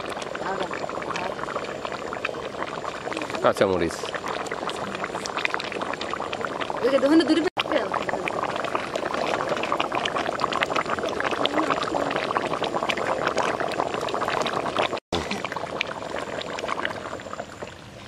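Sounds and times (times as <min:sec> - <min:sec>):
curry bubbling in pot: 0:00.0 - 0:18.0.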